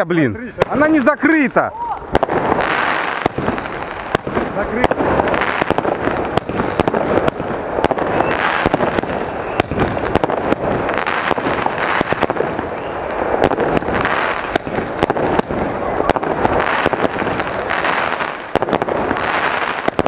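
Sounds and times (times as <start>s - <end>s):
firework bangs: 0.4s - 20.0s.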